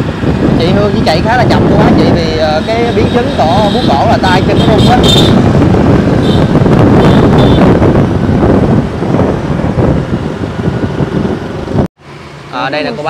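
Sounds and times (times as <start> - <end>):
wind buffeting microphone: 0.0 - 11.9
motorbike road noise: 0.0 - 13.0.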